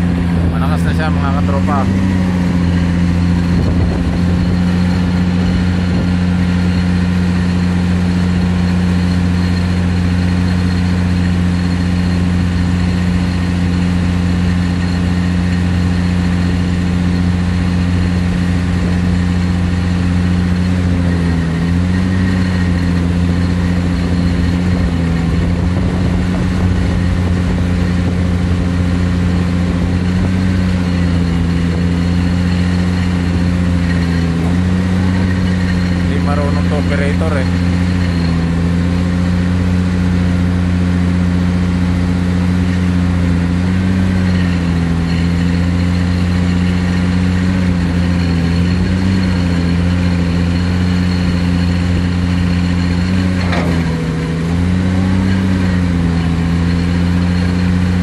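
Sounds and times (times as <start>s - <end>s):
excavator engine and vibro hammer: 0.0s - 58.0s.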